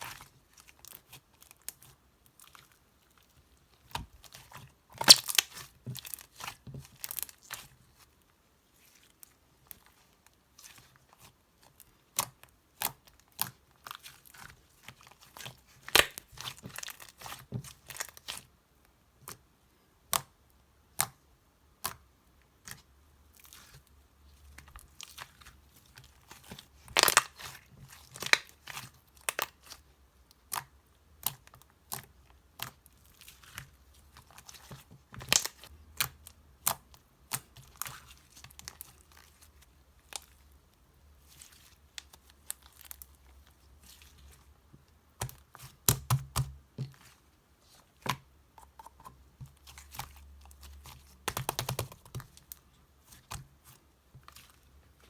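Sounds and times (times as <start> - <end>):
slime being squished by hand: 0.0 - 18.5, 24.5 - 44.5, 45.1 - 55.0.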